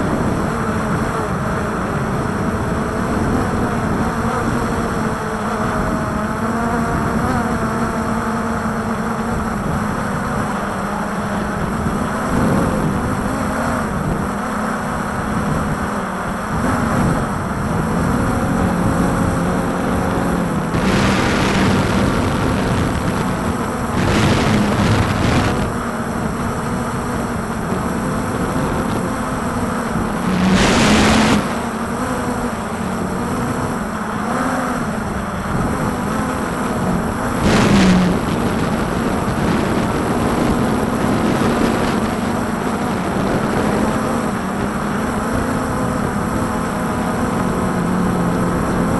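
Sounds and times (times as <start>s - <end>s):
drone propellers humming: 0.0s - 48.9s
wind buffeting microphone: 0.0s - 48.9s.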